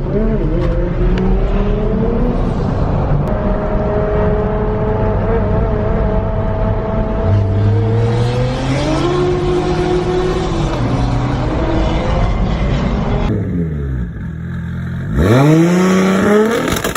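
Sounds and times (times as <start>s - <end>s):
car engine accelerating: 0.0s - 16.9s.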